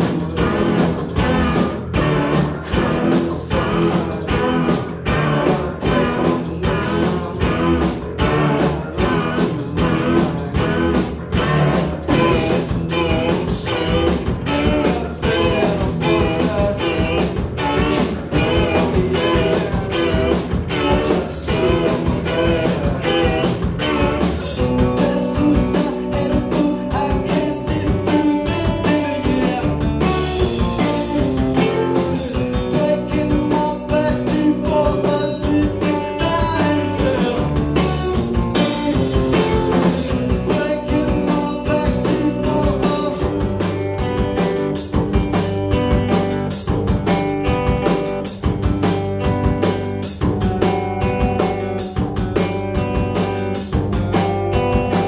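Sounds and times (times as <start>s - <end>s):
distorted electric guitars: 0.0s - 55.0s
drum beat: 0.0s - 55.0s
keyboard: 0.0s - 55.0s.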